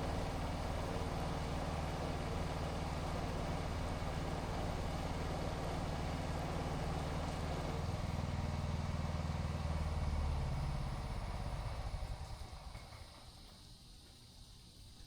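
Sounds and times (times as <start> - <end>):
pressure washer engine running: 0.0 - 13.2.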